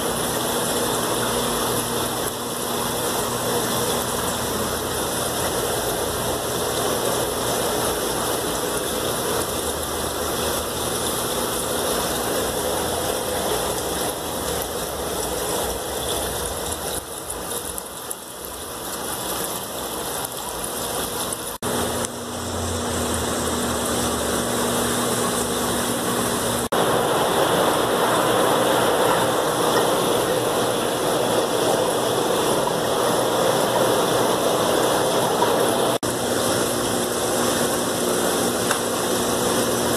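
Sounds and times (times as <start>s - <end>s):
aquarium pumps and flowing water: 0.0s - 39.9s.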